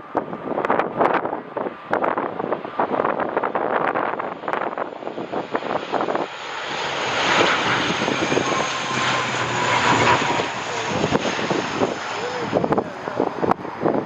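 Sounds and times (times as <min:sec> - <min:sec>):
airliner engine noise: 0:00.0 - 0:14.0
wind buffeting microphone: 0:00.0 - 0:14.0.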